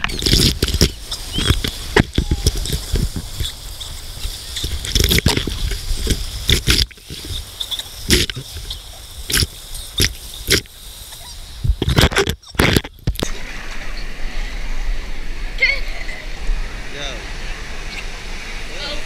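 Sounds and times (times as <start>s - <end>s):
surf churning and splashing: 0.0s - 19.0s.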